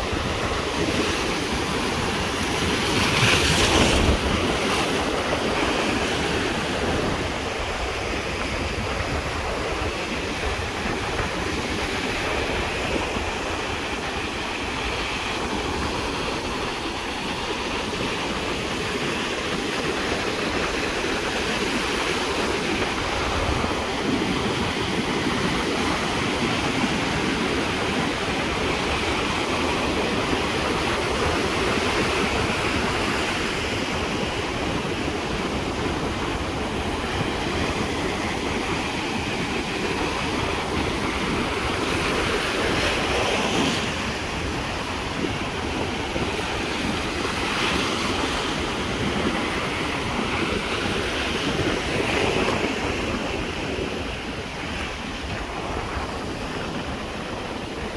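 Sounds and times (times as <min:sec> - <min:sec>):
ocean surf breaking: 0:00.0 - 0:57.9.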